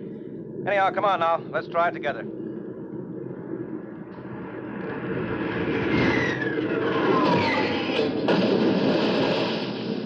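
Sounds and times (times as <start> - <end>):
fighter aircraft engines: 0.0 - 2.5, 3.5 - 10.0
falling whine: 0.0 - 10.0.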